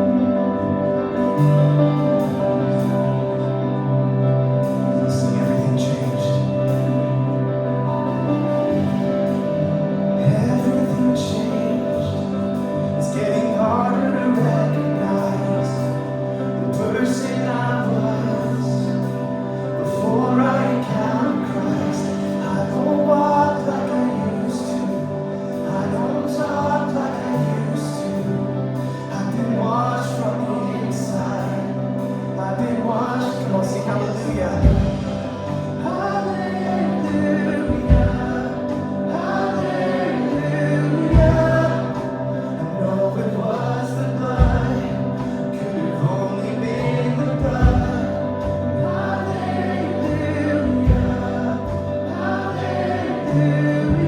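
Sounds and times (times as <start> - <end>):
keyboard pad and bass chords: 0.0 - 54.0
melody line: 0.0 - 54.0
worship band playing slow song: 0.0 - 54.0.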